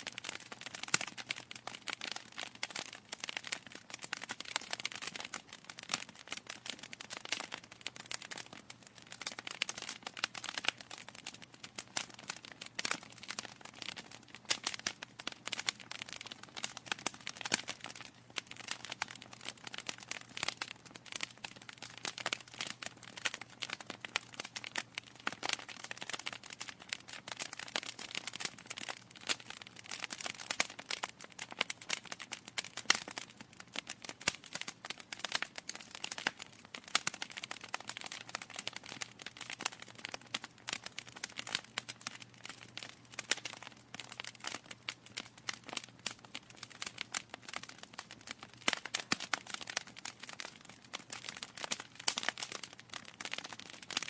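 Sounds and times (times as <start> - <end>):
logs crackling in a fireplace: 0.0 - 54.0.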